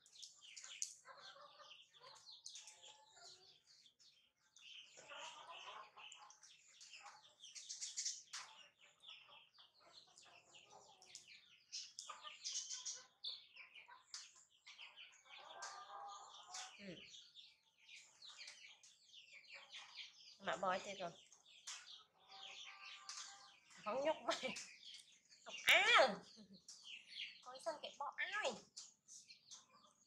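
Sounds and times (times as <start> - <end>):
faint bird calls and chirps: 0.0 - 30.0.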